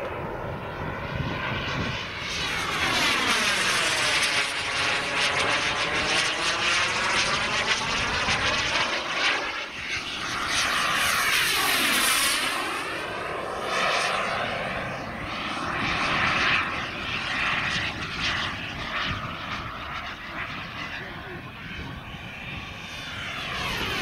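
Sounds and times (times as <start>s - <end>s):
model jet turbine roaring: 0.0s - 24.0s.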